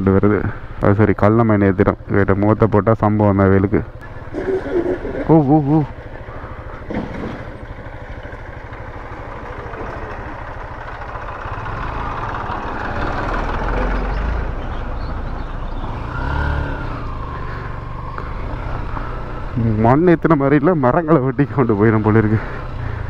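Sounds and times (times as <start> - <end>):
motorcycle running: 0.0 - 23.0
tractors passing: 0.0 - 23.0.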